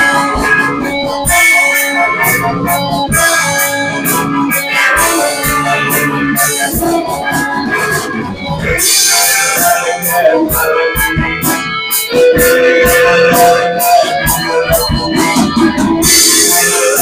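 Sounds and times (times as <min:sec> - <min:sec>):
drums with cymbal strikes: 0:00.0 - 0:17.0
electric guitar: 0:00.0 - 0:17.0.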